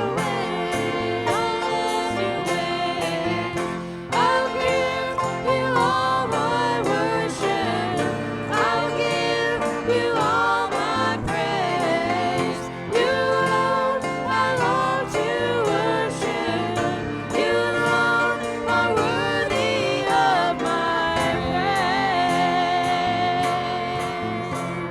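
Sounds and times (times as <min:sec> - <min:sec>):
person singing: 0:00.0 - 0:24.9.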